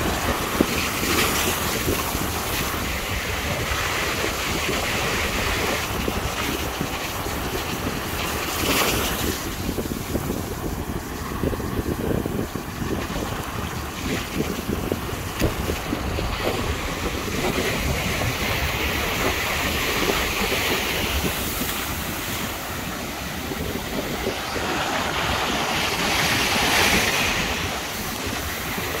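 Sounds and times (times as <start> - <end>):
ocean surf breaking: 0.0 - 29.0
wind buffeting microphone: 0.0 - 29.0.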